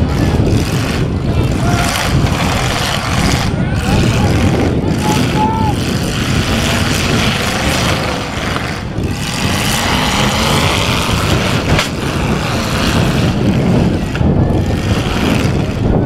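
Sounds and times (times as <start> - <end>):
unmuffled car engines revving: 0.0 - 16.0.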